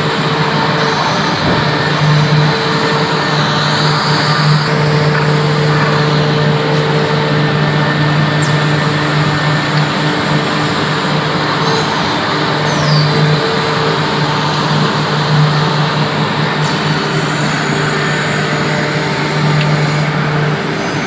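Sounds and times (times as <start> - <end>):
milling machine running: 0.0 - 21.0.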